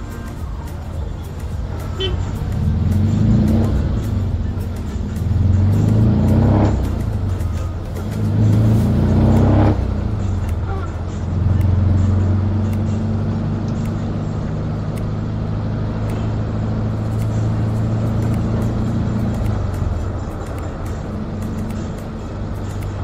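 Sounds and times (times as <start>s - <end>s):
minibus engine drone: 0.0s - 23.0s
road noise: 0.0s - 23.0s.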